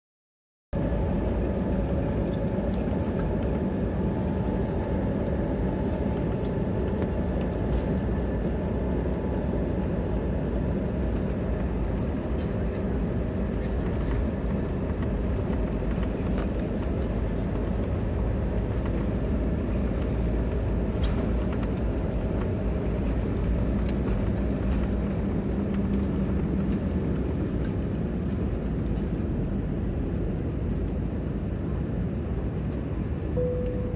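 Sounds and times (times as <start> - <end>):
jet engines rumbling: 0.8 - 33.9.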